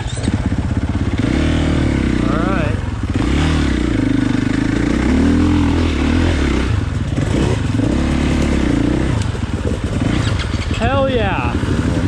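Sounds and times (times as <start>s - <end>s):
dirt bike engine revving hard: 0.0s - 12.0s.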